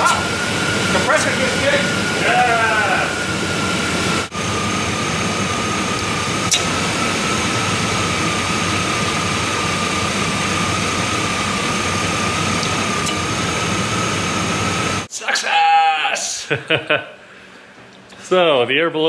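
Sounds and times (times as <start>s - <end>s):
compressor high whine: 0.0s - 15.7s.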